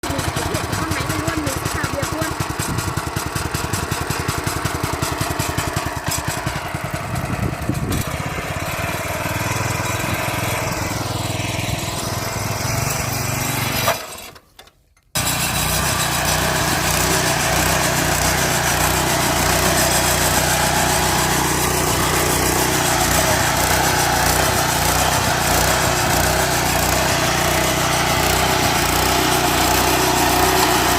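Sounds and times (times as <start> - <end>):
brush cutter engine running: 0.0 - 14.3, 15.2 - 30.9.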